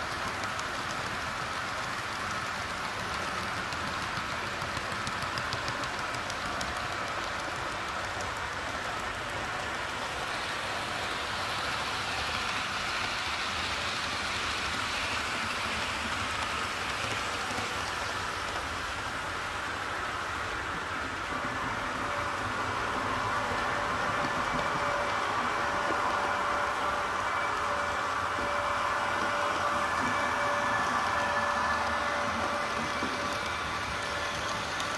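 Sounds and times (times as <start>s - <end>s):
model train wheels on rail: 0.0s - 34.9s
wheels ticking over rail joints: 0.0s - 34.9s.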